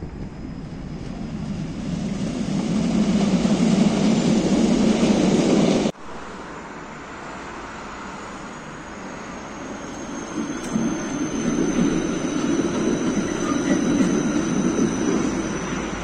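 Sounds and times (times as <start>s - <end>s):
tram wheels rumbling on rail: 0.0s - 6.3s, 7.2s - 16.0s
tram approaching on street track: 0.0s - 16.0s.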